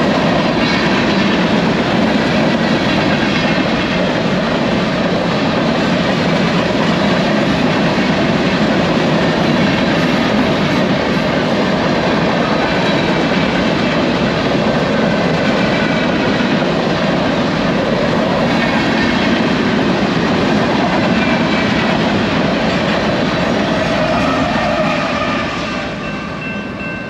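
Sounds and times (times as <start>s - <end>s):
freight train wheels rumbling on rails: 0.0s - 27.0s.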